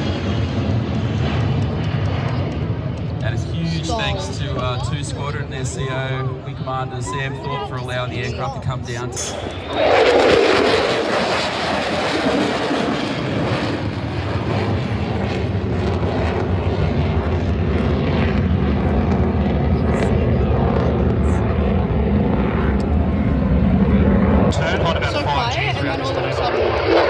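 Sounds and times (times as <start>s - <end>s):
jet aircraft roar: 0.0s - 27.0s.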